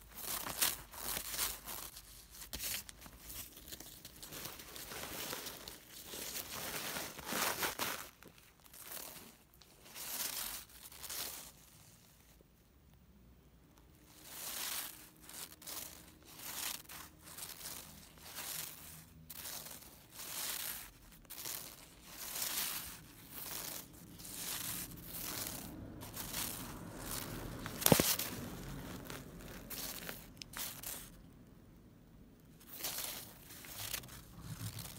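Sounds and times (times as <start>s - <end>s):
wand toy rustling on turf: 0.0s - 12.4s, 14.1s - 31.3s, 32.4s - 34.9s.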